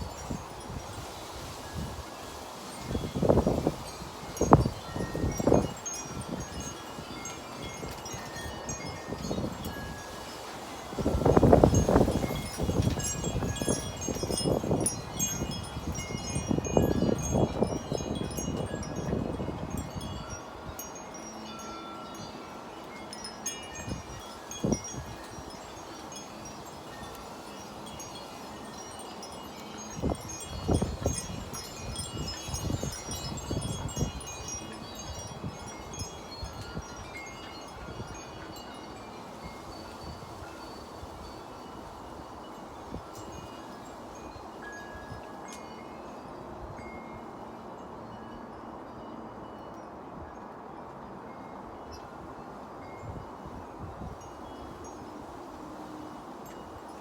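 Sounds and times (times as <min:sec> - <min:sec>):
wind rumbling on microphone: 0:00.0 - 0:22.3, 0:23.2 - 0:45.3, 0:51.2 - 0:57.0
wind chimes ringing: 0:00.0 - 0:57.0.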